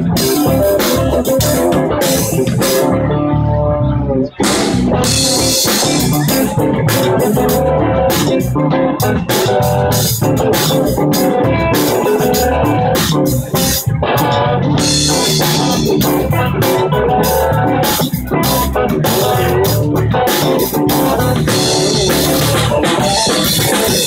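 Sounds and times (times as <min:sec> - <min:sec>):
drum kit: 0:00.0 - 0:03.2, 0:04.3 - 0:24.0
bass: 0:00.0 - 0:24.0
guitar: 0:00.0 - 0:24.0.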